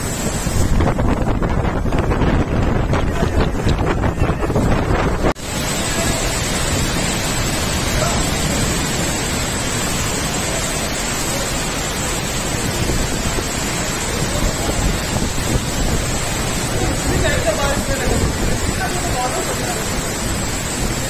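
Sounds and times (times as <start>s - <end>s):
torrential rain hiss: 0.0s - 21.0s
wind buffeting microphone: 0.0s - 21.0s.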